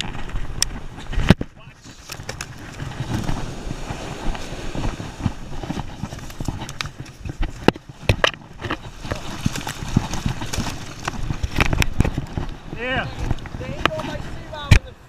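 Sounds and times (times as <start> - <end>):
shallow surf washing: 0.0 - 15.0.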